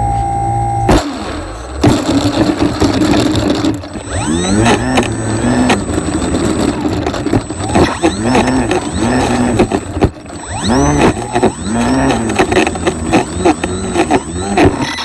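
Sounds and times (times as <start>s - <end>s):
model plane motor and propeller: 0.9s - 15.0s.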